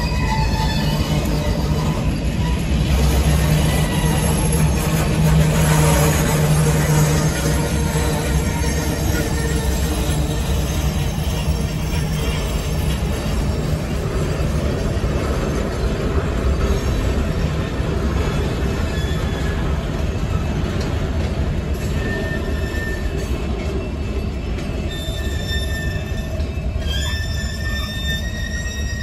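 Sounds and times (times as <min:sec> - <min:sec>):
train wheels rumbling on rail: 0:00.0 - 0:29.0
wheels squealing: 0:00.0 - 0:29.0.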